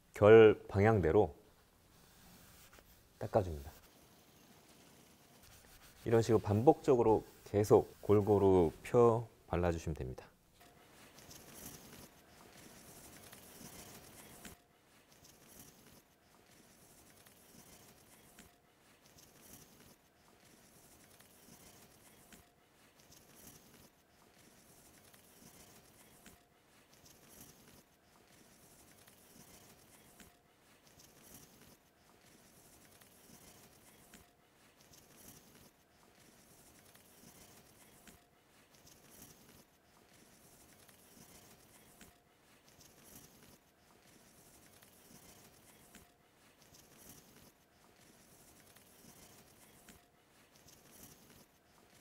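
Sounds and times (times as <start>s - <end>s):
cloth rubbing on wood: 0.7s - 9.2s, 10.8s - 52.0s.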